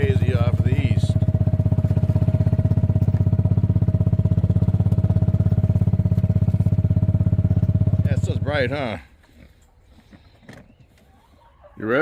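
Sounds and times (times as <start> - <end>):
farm vehicle engine running: 0.0 - 12.0.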